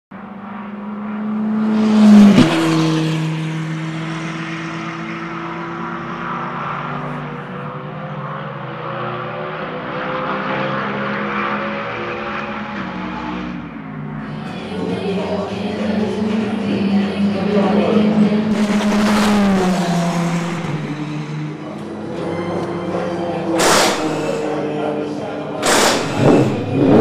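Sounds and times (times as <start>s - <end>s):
racing car passing at speed: 0.2s - 27.0s.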